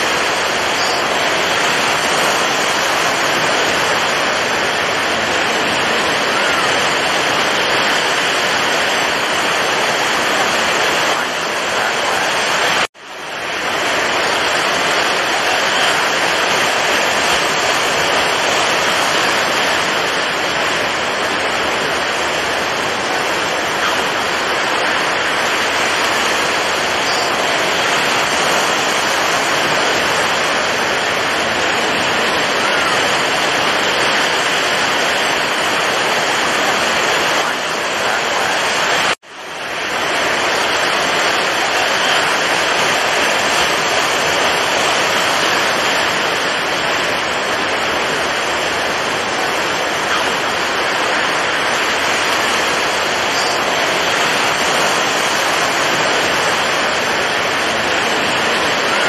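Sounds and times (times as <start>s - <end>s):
waves breaking on rough sea: 0.0s - 59.0s.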